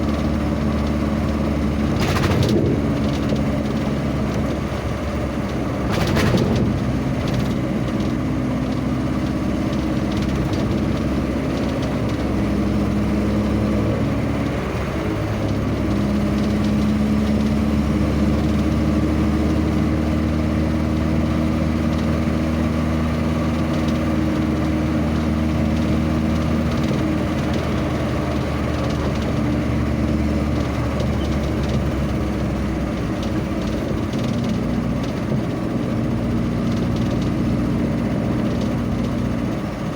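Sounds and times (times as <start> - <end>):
road and wind noise: 0.0 - 39.9
vehicle engine humming: 0.0 - 39.9.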